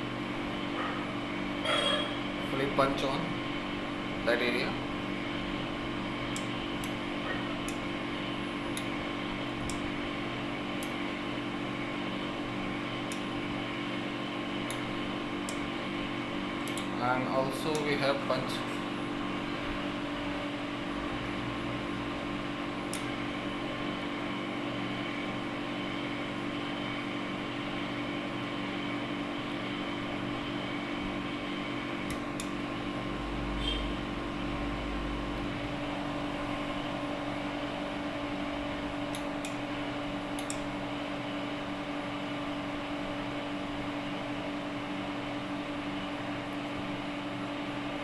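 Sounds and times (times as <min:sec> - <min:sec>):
machine fan humming: 0:00.0 - 0:48.0.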